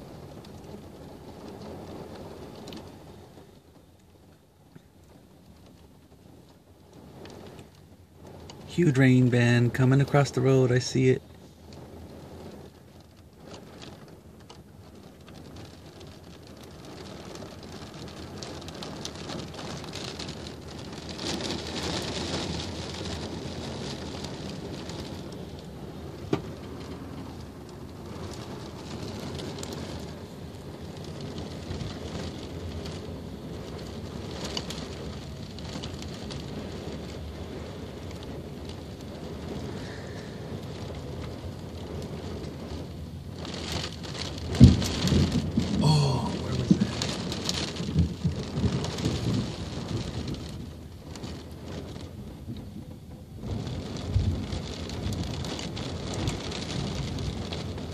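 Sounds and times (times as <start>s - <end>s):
rain on vehicle windows: 0.0s - 57.9s.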